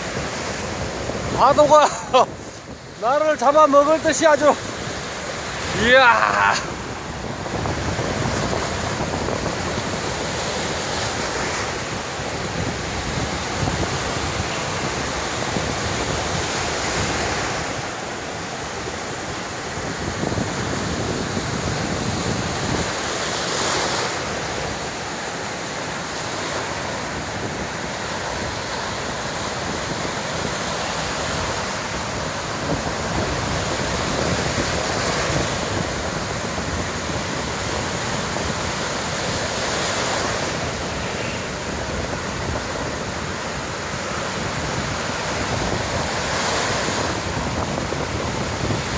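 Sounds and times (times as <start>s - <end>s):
sea surf breaking on beach: 0.0s - 48.9s.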